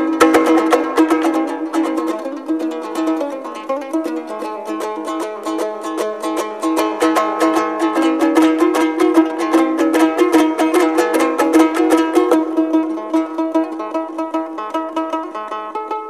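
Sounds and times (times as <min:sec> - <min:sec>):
plucked string instrument strumming: 0:00.0 - 0:16.0.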